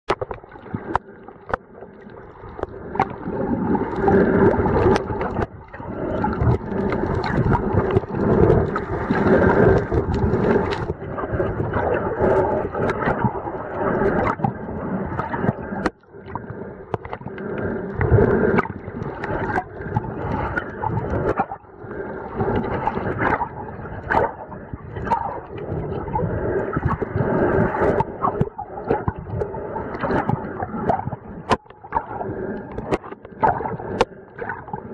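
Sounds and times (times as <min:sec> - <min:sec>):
water gurgling underwater: 0:00.1 - 0:34.9.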